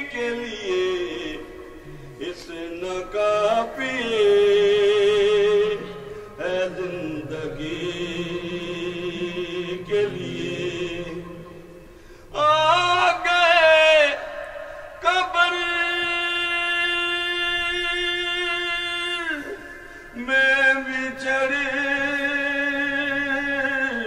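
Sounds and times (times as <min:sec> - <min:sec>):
man chanting unaccompanied: 0:00.0 - 0:14.4, 0:15.0 - 0:24.0.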